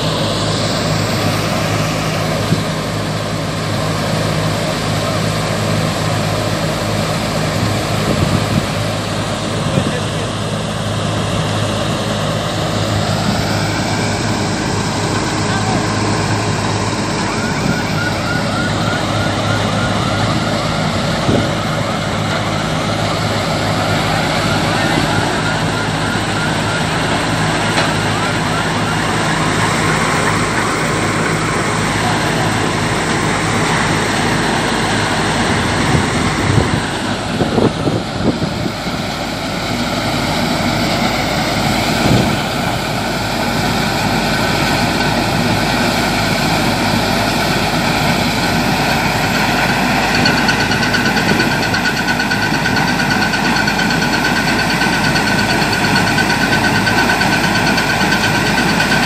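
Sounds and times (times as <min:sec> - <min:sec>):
engine drone: 0:00.0 - 0:59.0
straw chopper machine whirring: 0:00.0 - 0:59.0.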